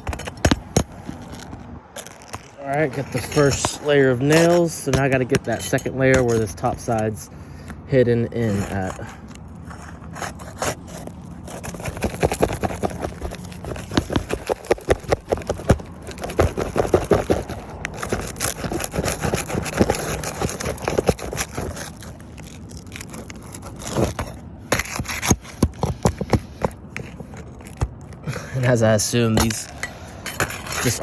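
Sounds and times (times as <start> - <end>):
roof shingles scraping and crackling: 0.0 - 31.0.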